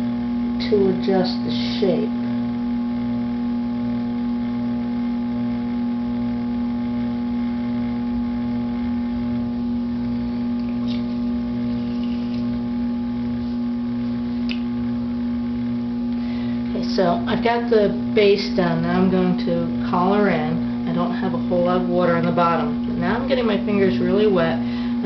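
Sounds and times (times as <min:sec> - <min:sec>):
potter's wheel motor humming: 0:00.0 - 0:25.0.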